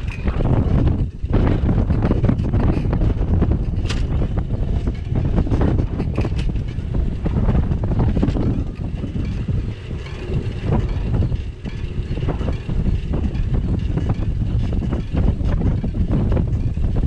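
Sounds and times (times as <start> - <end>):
bicycle rattles and knocks: 0.0 - 17.0
wind rumbling on microphone: 0.0 - 17.0.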